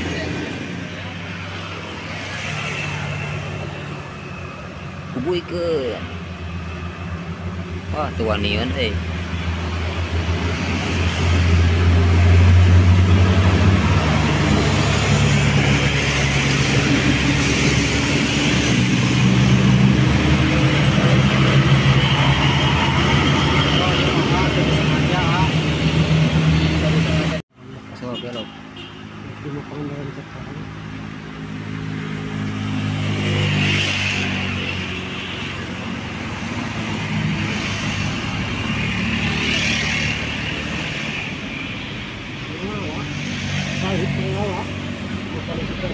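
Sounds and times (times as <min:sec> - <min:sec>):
passing vehicles rumbling: 0:00.0 - 0:45.9
road and traffic noise: 0:00.0 - 0:45.9
vehicle engine hum: 0:00.0 - 0:45.9.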